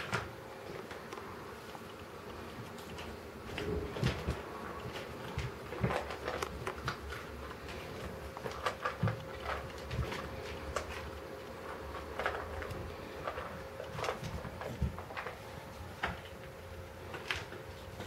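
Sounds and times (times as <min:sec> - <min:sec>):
paws and claws on floor: 0:00.0 - 0:18.0.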